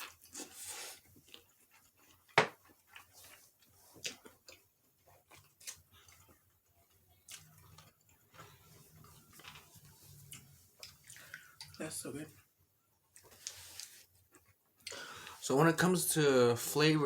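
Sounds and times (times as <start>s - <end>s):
soft chewing: 0.0s - 15.4s.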